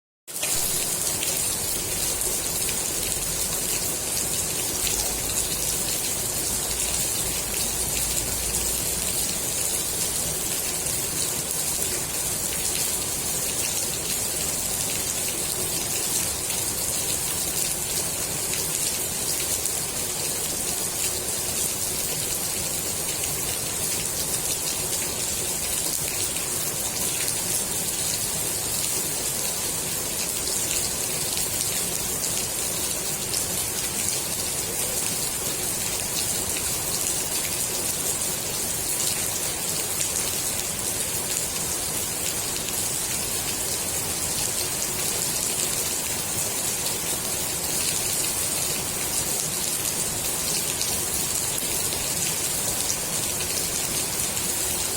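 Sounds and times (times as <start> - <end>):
rain falling on pool water: 0.3 - 54.9.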